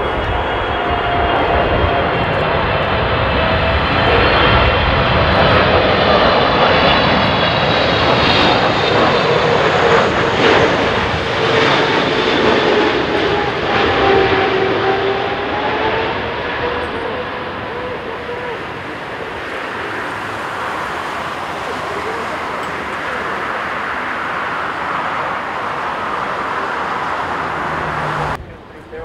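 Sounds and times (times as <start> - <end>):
jet roar with whining fans: 0.0 - 29.0.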